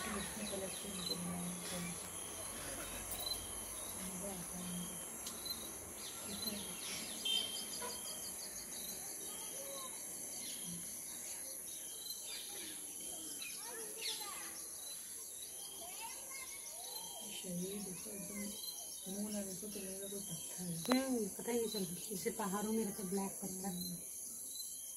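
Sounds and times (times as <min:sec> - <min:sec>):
bird chirps: 0:00.0 - 0:22.0
insects droning: 0:00.0 - 0:24.9.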